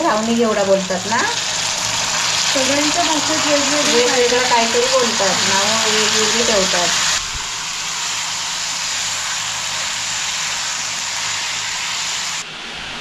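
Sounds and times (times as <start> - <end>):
beans sizzling in hot oil: 0.0 - 12.4.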